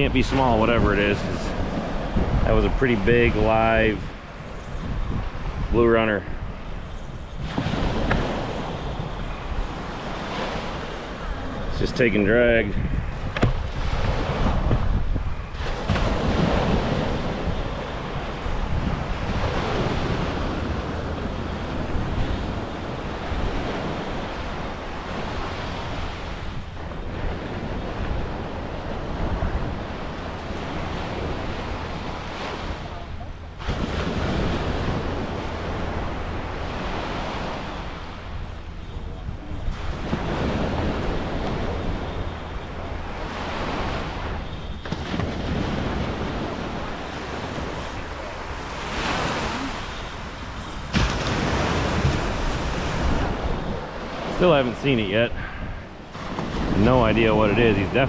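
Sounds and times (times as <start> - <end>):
surf breaking on beach: 0.0 - 58.0
wind rumbling on microphone: 0.0 - 58.0.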